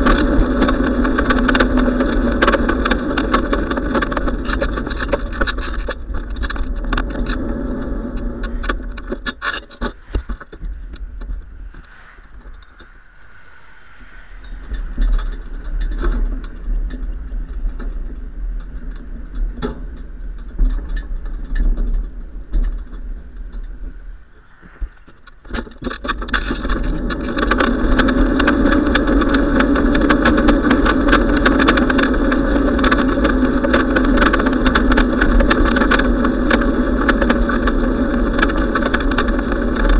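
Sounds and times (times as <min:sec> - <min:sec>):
rattling clicks from bumps: 0:00.0 - 0:39.9
wind rushing over microphone: 0:00.0 - 0:39.9.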